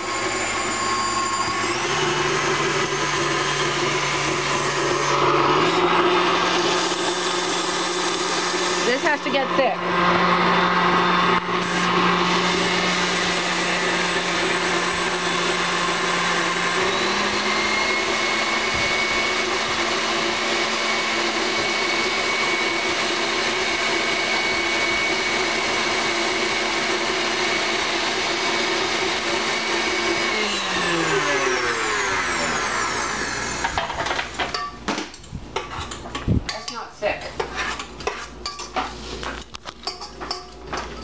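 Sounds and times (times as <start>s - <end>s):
stand mixer motor whine: 0.0s - 34.4s.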